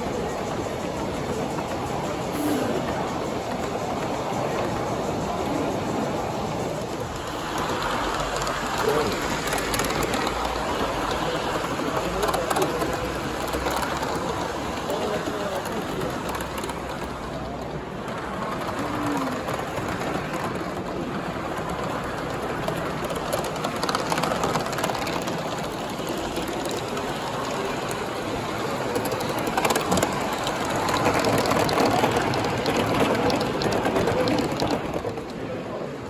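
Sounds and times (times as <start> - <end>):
model steam locomotive hissing and ticking: 0.0 - 36.0
wheels clicking over rail joints: 0.0 - 36.0.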